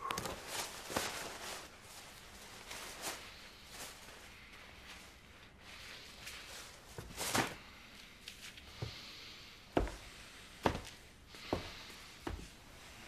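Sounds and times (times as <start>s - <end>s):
slow footsteps indoors: 0.0s - 13.0s.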